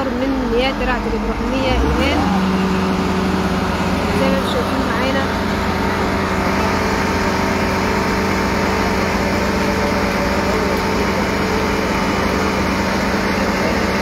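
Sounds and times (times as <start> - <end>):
crane engine running: 0.0 - 14.0.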